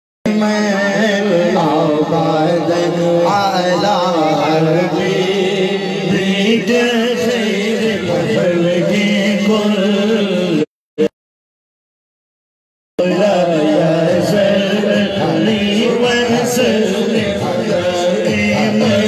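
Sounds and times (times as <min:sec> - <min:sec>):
men chanting: 0:00.4 - 0:10.7, 0:13.0 - 0:19.0.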